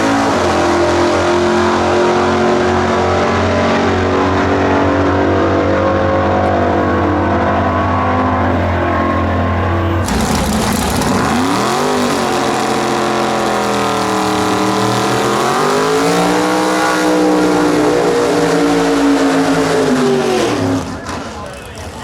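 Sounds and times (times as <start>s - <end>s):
car engine at full throttle: 0.0s - 22.0s.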